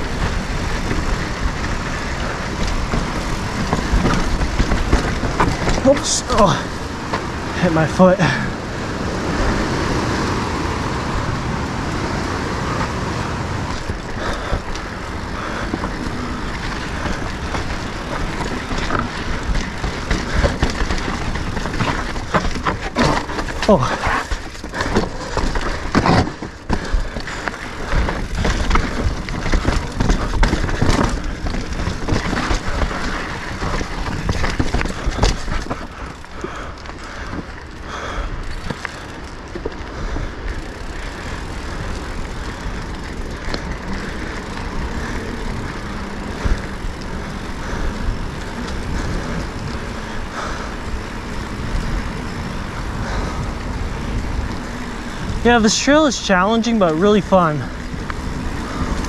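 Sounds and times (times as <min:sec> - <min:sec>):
bike frame and chain rattling: 0:00.0 - 0:59.0
bike tyres rumbling over rock: 0:00.0 - 0:59.0.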